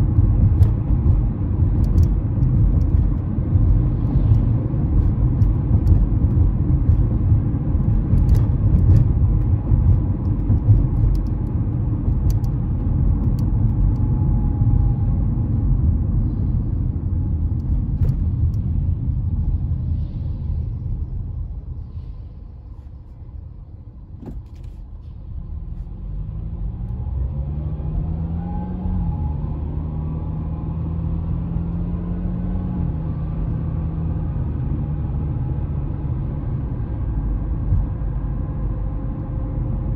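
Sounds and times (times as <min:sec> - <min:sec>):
car engine tone rising: 0:00.0 - 0:21.9, 0:25.3 - 0:37.9
road and tyre rumble: 0:00.0 - 0:39.9.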